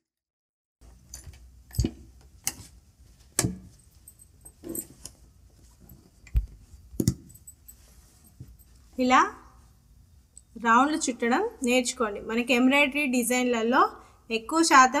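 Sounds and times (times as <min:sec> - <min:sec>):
low steady hum: 0:00.8 - 0:14.6.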